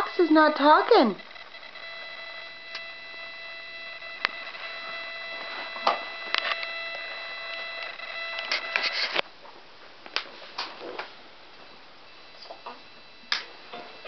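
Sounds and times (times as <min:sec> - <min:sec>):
steady high whine: 0:00.0 - 0:09.6, 0:10.2 - 0:14.0.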